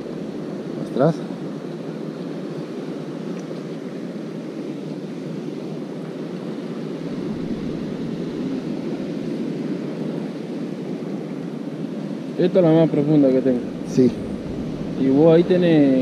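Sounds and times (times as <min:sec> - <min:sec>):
rushing water: 0:00.0 - 0:16.0
rushing wind: 0:00.0 - 0:16.0
wind rumble on microphone: 0:02.1 - 0:16.0.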